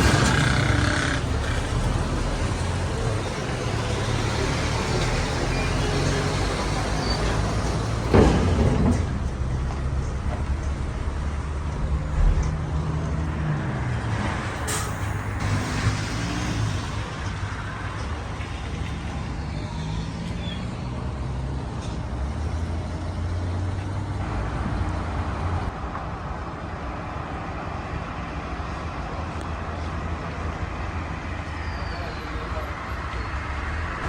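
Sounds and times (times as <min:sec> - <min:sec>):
road and tyre noise: 0:00.0 - 0:34.0
vehicle engine hum: 0:00.0 - 0:34.0.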